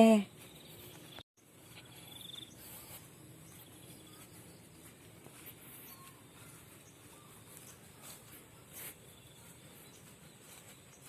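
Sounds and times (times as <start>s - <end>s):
faint high chirps: 0.3s - 11.0s.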